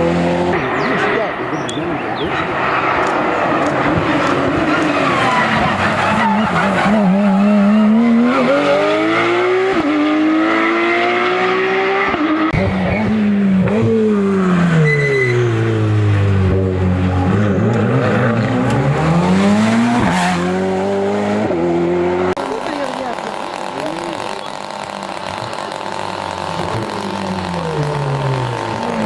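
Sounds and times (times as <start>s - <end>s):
race car engine accelerating: 0.0s - 29.0s.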